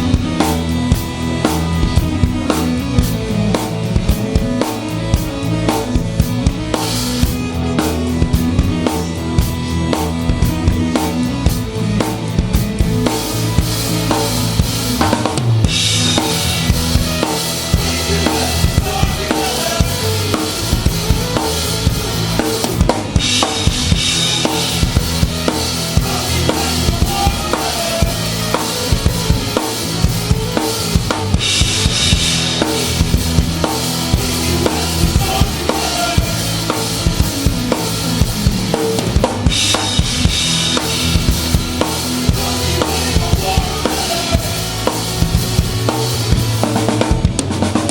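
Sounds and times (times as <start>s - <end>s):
drum kit kick and snare: 0.0s - 47.9s
live band playing instrumental: 0.0s - 47.9s.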